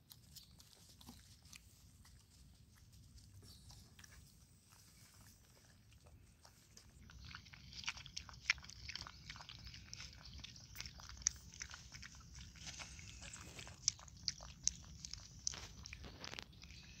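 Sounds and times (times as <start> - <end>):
puppies lapping and chewing: 0.0 - 17.0.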